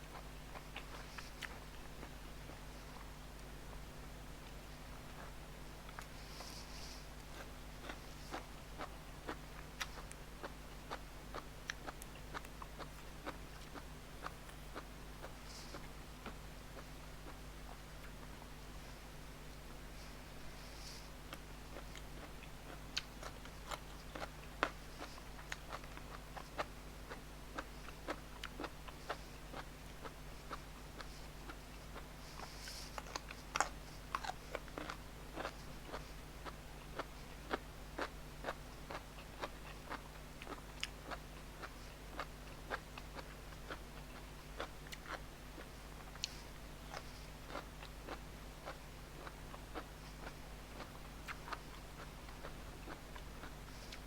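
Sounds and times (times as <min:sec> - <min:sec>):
person chewing with wet clicks: 0:00.0 - 0:18.5, 0:20.9 - 0:54.0.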